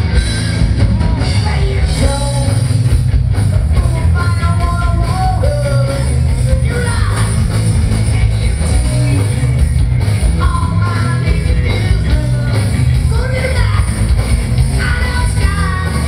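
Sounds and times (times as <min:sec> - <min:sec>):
live hard rock band playing: 0:00.0 - 0:16.0
man singing lead vocals: 0:01.0 - 0:09.6, 0:10.2 - 0:16.0.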